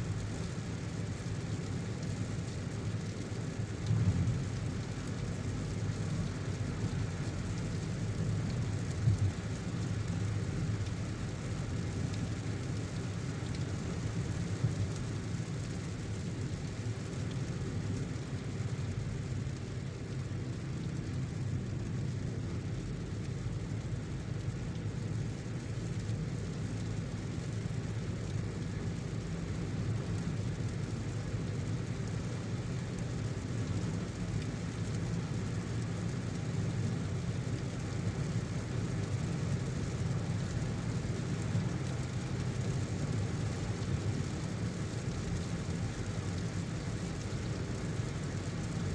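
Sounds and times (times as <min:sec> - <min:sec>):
car driving in rain: 0:00.0 - 0:48.9.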